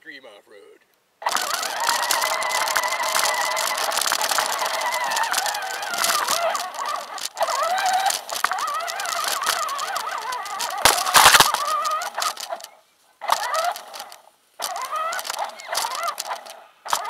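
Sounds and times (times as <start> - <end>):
loud clatter: 1.2 - 17.0
rc truck motor whine: 1.2 - 17.0
steady rattle: 1.2 - 17.0.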